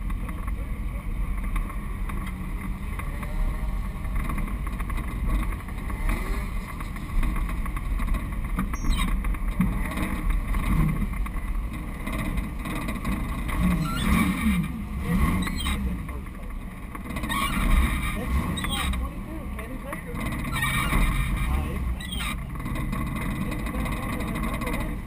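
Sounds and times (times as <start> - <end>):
car engine running low: 0.0 - 25.0.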